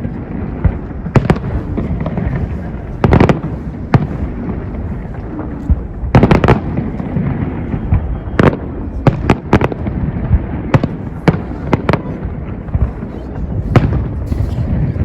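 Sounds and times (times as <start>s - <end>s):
continuous low rumble: 0.0s - 15.0s
fireworks bursting with sharp bangs: 0.0s - 15.0s.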